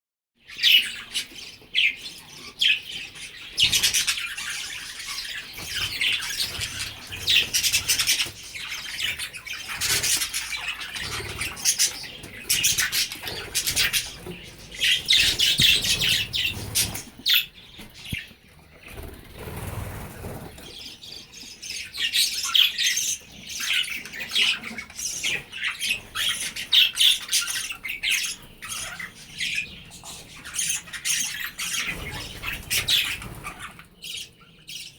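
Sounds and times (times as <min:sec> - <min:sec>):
budgerigars chirping and chattering: 0:00.4 - 0:34.9.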